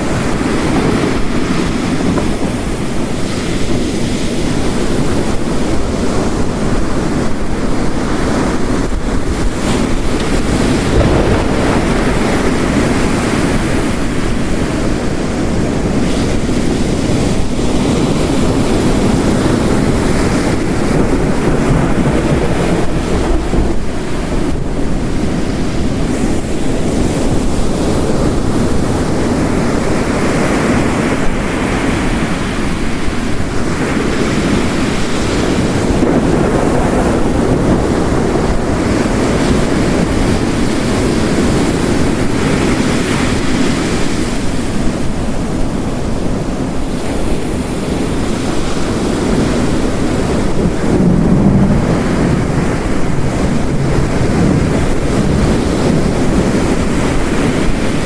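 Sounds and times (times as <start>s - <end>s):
heavy rain: 0.0s - 58.0s
ocean waves crashing on rocks: 0.0s - 58.0s.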